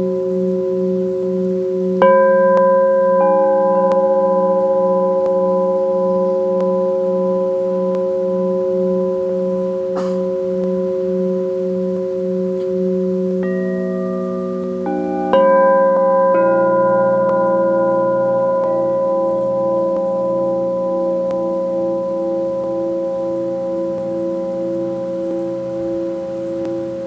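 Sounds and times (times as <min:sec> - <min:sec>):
crystal singing bowls ringing: 0:00.0 - 0:27.0
singing bowl struck: 0:00.1 - 0:26.9.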